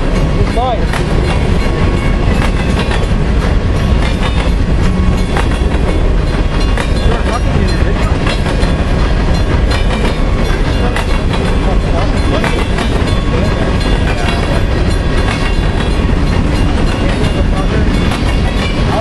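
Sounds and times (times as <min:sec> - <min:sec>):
train wheels rumbling on rail: 0:00.0 - 0:19.0
wheels clicking and clacking: 0:00.0 - 0:19.0.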